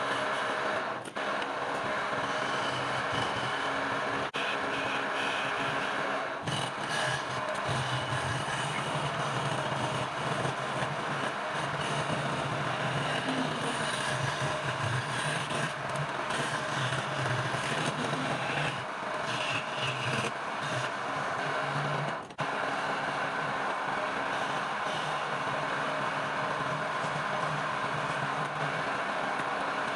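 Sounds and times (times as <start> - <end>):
lathe tool scraping workpiece: 0.0 - 29.9.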